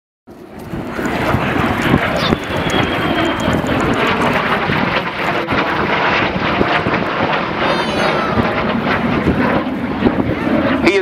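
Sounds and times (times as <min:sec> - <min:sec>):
jet fighter flying past: 0:00.3 - 0:11.0.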